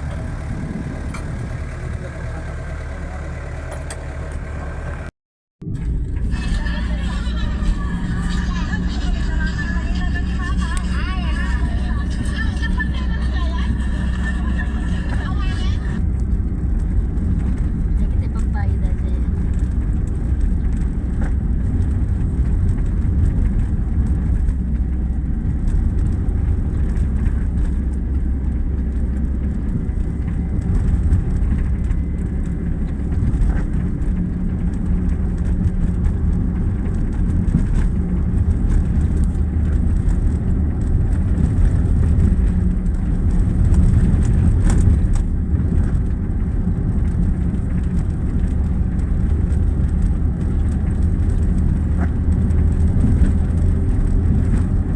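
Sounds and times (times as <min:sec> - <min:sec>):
engine rumbling: 0:00.0 - 0:54.9.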